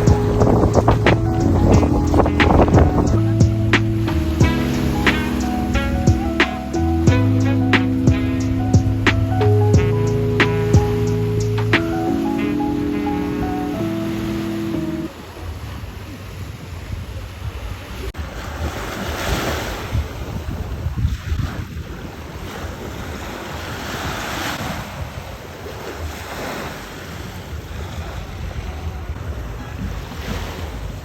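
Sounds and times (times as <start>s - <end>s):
rushing sea water: 0.0s - 31.0s
wind buffeting microphone: 0.0s - 31.0s.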